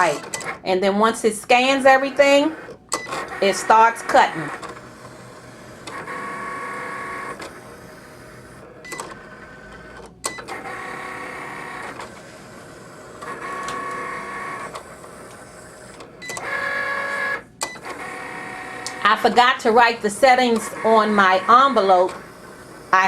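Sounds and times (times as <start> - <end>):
cutting machine motors whining: 0.0 - 0.7, 1.4 - 23.0.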